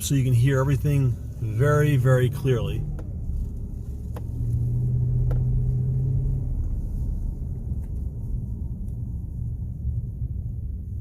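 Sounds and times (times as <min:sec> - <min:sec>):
road rumble inside truck cab: 0:00.0 - 0:11.0.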